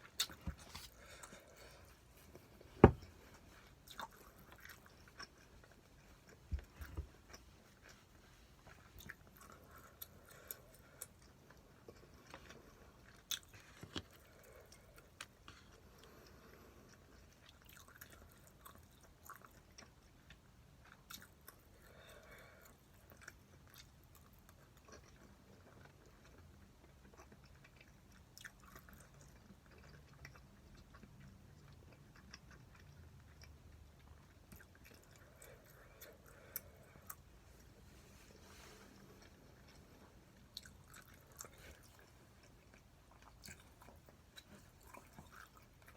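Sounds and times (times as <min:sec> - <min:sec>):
faint chewing: 0:00.0 - 0:45.9.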